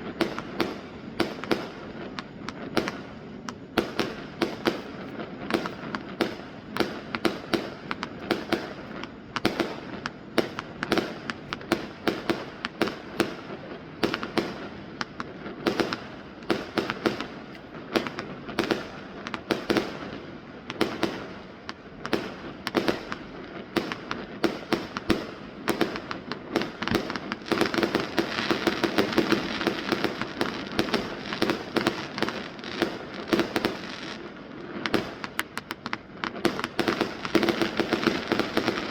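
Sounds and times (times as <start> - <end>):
dense fireworks crackling: 0.0 - 38.9
fireworks bangs and pops: 0.0 - 38.9.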